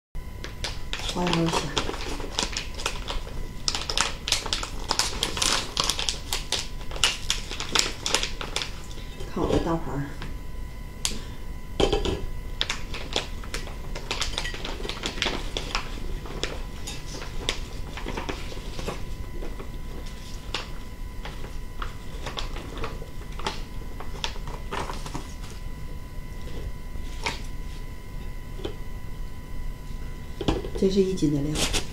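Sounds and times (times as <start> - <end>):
plastic bag crinkling: 0.4 - 9.6, 12.6 - 27.9, 30.4 - 31.9.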